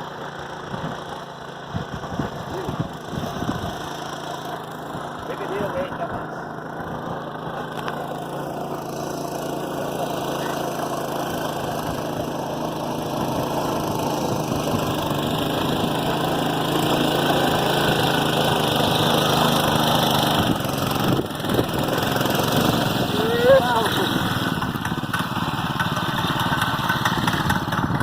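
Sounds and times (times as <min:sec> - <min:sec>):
motorcycle engine in mud: 0:00.0 - 0:28.0.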